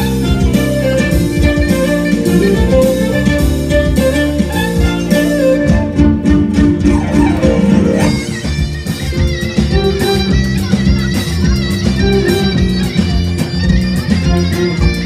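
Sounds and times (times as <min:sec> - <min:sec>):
plucked strings: 0:00.0 - 0:15.0
steady beat: 0:00.0 - 0:15.0
traditional music ensemble: 0:00.0 - 0:15.0.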